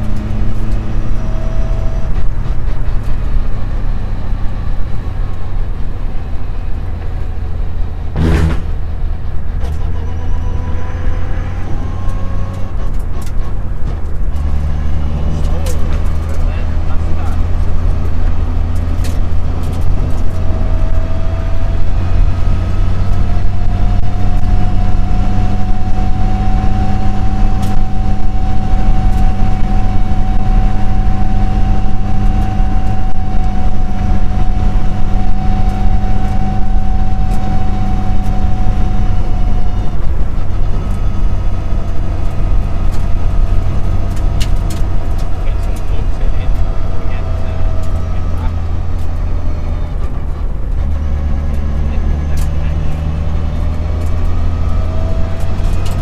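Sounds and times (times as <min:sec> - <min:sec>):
car engine inside cabin: 0:00.0 - 0:56.0
drivetrain whine: 0:00.0 - 0:56.0.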